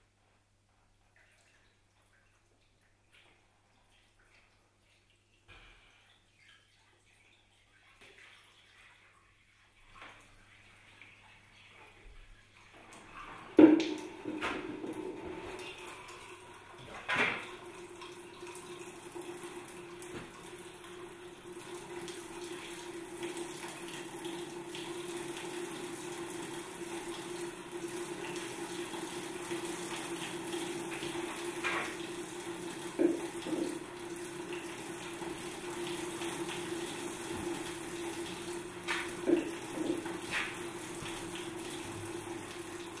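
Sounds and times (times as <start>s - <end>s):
water running and splashing: 6.3s - 43.0s.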